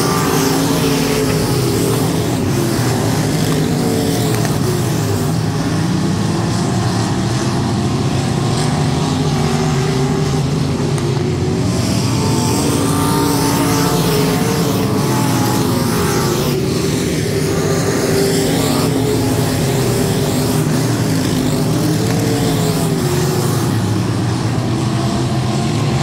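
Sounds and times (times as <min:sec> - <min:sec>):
race car engines running: 0:00.0 - 0:26.0.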